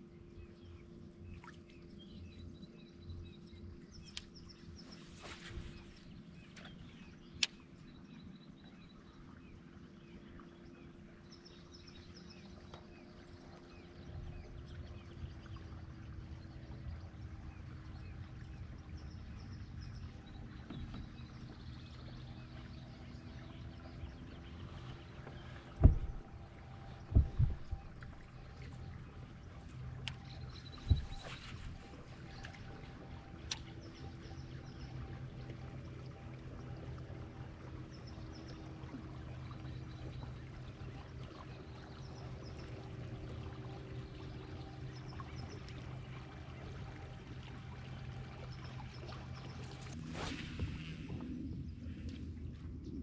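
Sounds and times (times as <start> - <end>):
steady low hum: 0.0 - 53.0
water and hull noise: 0.0 - 53.0.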